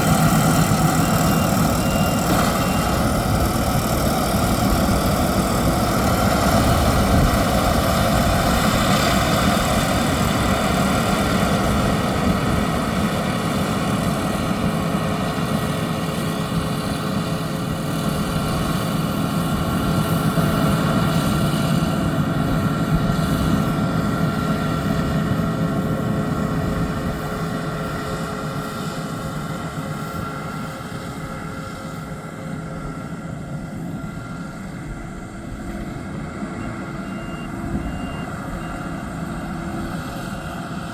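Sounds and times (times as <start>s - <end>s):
combine harvester engine drone: 0.0s - 40.9s
machinery whining: 0.0s - 40.9s.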